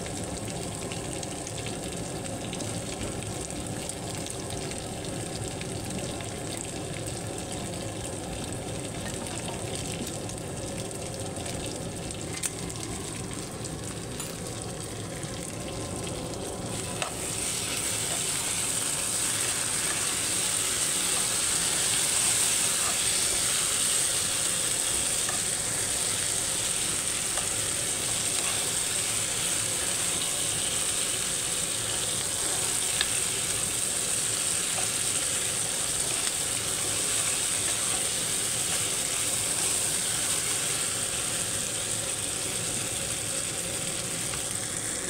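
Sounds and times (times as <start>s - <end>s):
meat and vegetables sizzling in oil: 0.0s - 45.0s.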